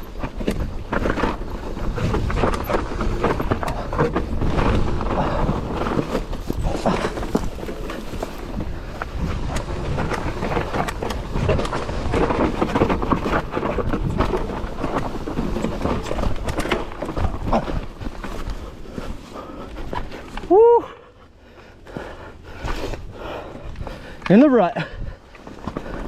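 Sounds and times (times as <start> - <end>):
mountain bike rattling and clattering: 0.0 - 26.0
tyres rumbling: 0.0 - 26.0.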